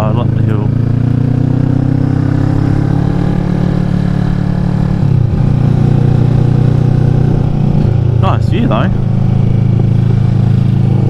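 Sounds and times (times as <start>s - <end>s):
motorcycle engine climbing a hill: 0.0s - 11.0s.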